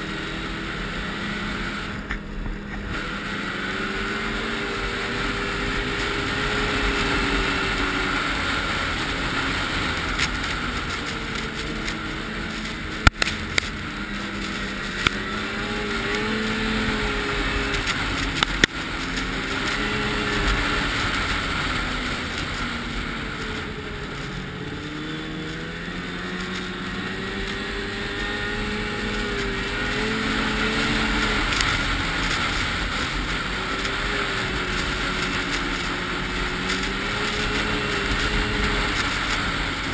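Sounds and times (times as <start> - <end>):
steady rumble: 0.0 - 39.9
vehicle engines revving: 0.0 - 39.9.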